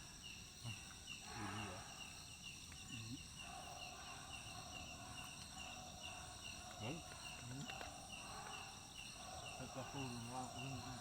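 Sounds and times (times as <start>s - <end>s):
high insect drone: 0.0s - 11.0s
insect chirping: 0.0s - 11.0s.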